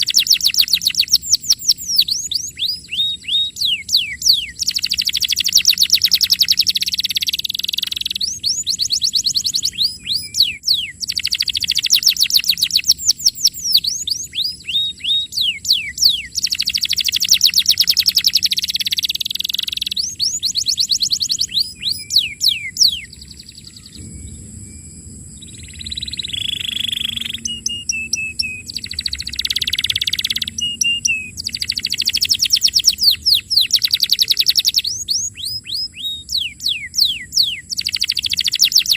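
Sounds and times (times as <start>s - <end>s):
canary singing trills: 0.0s - 24.8s, 25.4s - 38.9s.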